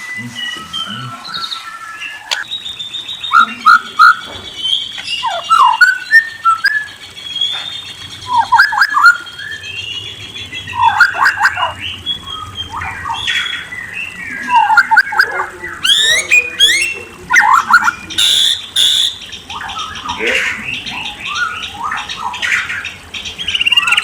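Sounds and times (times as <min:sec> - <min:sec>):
songbird whistles and trills: 0:00.0 - 0:24.0.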